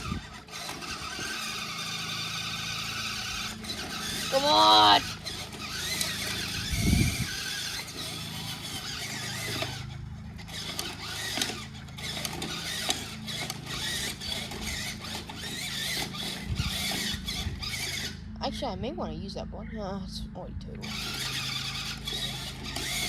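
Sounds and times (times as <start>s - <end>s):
toy truck motor whine: 0.0s - 18.4s, 20.8s - 23.0s.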